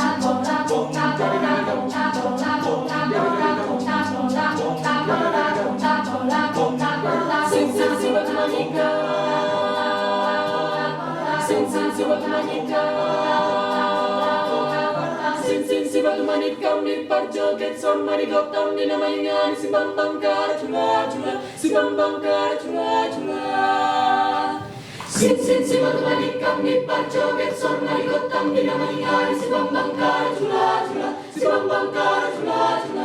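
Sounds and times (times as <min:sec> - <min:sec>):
choir singing a cappella: 0:00.0 - 0:33.0.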